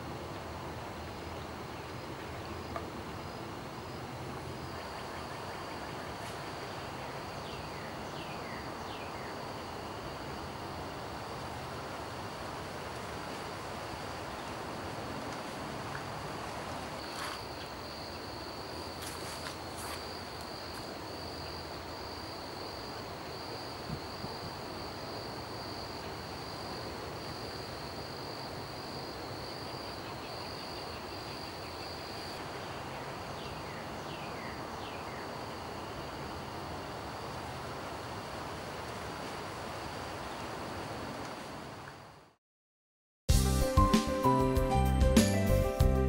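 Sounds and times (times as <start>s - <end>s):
outdoor background hiss: 0.0s - 42.4s
insects trilling: 0.3s - 38.8s.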